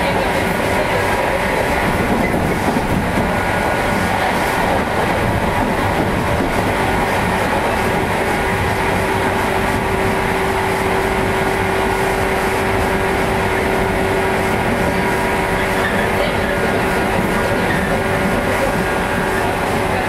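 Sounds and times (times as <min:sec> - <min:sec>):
train rail and running noise: 0:00.0 - 0:20.0.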